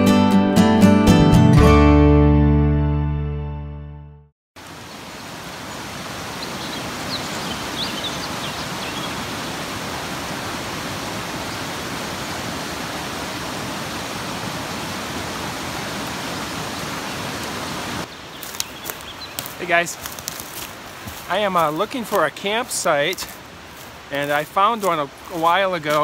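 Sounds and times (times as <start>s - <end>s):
creek rushing over rocks: 4.6s - 26.0s.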